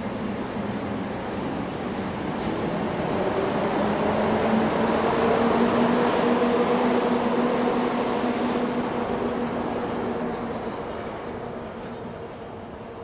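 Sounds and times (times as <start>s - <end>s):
electric locomotive hum: 0.0s - 13.0s.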